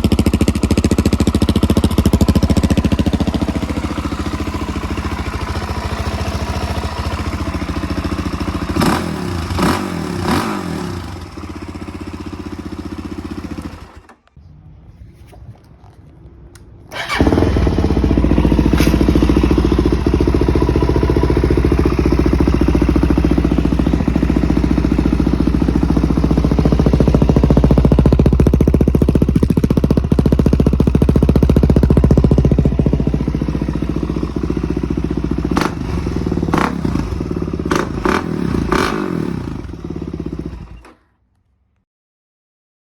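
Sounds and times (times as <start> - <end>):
motorcycle engine revving: 0.0 - 14.2, 16.9 - 40.9.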